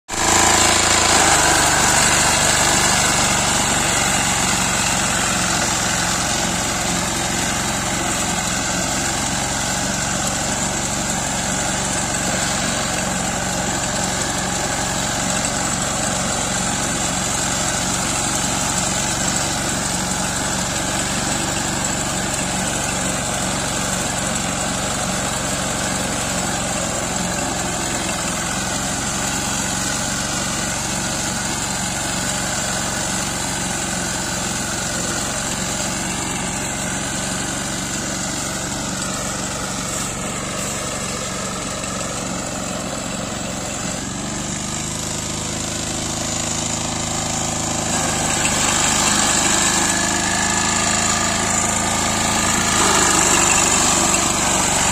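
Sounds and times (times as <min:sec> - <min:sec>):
small engine running: 0:00.1 - 0:54.9.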